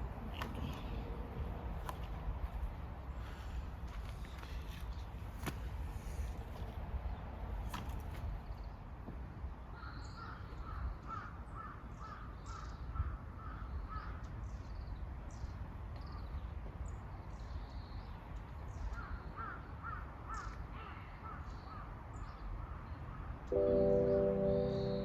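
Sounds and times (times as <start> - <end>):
low outdoor background: 0.0 - 25.0.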